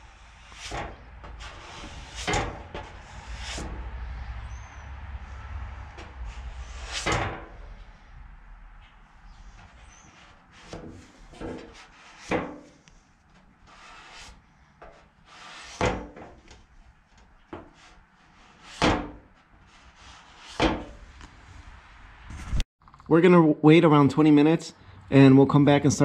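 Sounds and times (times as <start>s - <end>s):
spreader scraping over panel: 0.0s - 8.2s, 8.8s - 21.7s.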